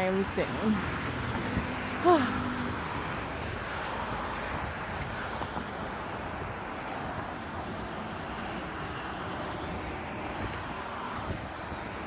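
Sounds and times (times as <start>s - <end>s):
wind and road rushing: 0.0s - 12.0s.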